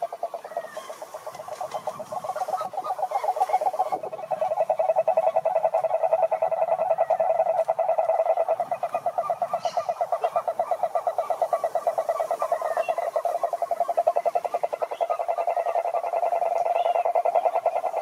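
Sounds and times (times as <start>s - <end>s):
frogs calling: 0.0s - 18.0s.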